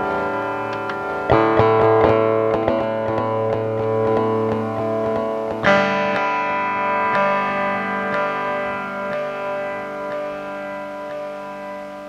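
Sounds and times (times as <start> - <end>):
loud strummed guitar chord: 0.0 - 12.0
plucked guitar notes: 0.0 - 12.0.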